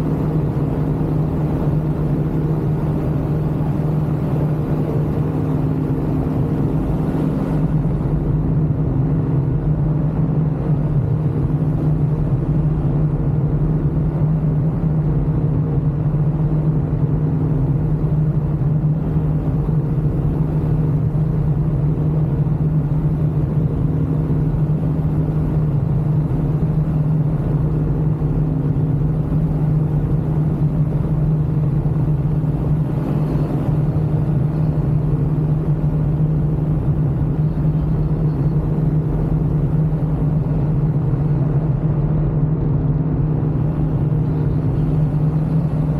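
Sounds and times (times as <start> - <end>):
ultralight aircraft engine droning: 0.0 - 45.9.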